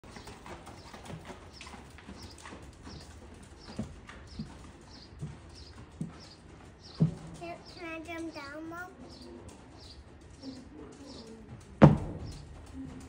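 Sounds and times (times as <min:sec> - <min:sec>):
hooves thudding on sand: 0:00.0 - 0:13.0.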